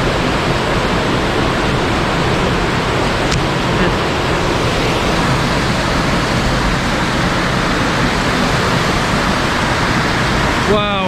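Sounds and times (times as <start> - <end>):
water pouring from cliff: 0.2 - 11.0.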